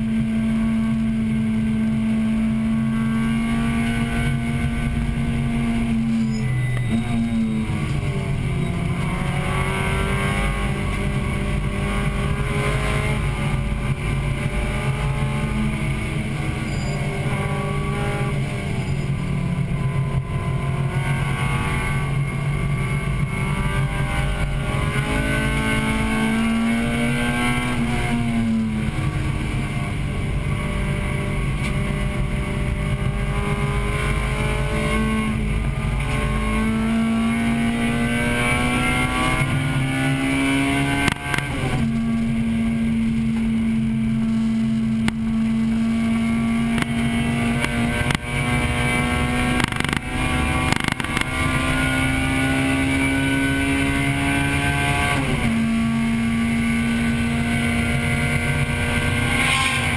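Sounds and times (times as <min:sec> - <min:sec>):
car engine revving from inside cabin: 0:00.0 - 0:59.9.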